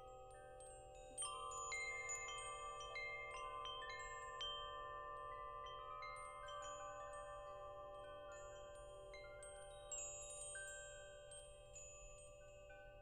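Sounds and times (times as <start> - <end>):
wind chimes ringing: 0.0 - 13.0.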